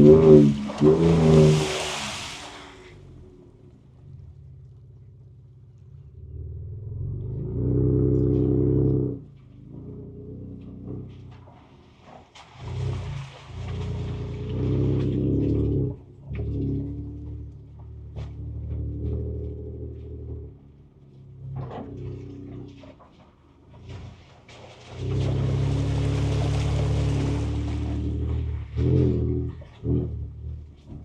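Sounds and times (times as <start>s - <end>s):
truck engine revving: 0.0s - 22.8s, 24.9s - 31.0s.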